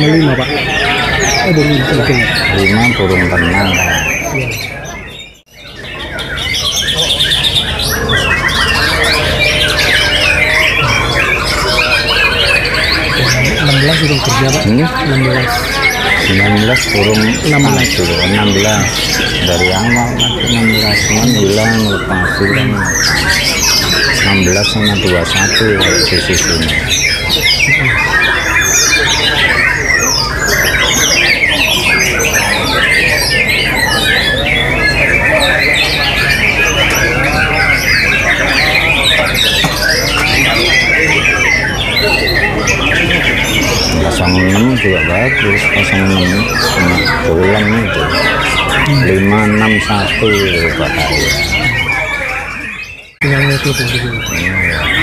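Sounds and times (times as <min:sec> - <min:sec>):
birds singing in chorus: 0:00.0 - 0:55.0
low crowd murmur: 0:00.0 - 0:55.0.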